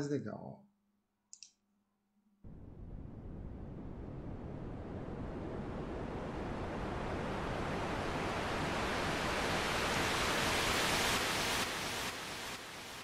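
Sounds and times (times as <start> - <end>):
filtered white noise hiss: 2.5 - 13.0.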